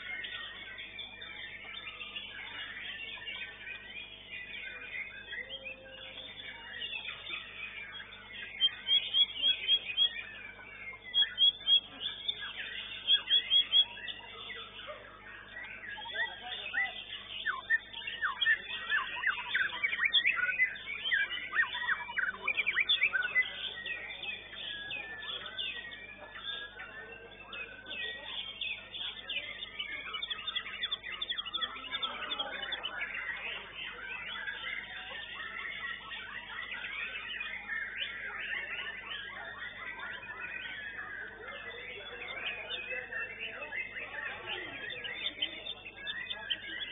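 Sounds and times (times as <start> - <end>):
songbird singing: 0.0 - 46.9.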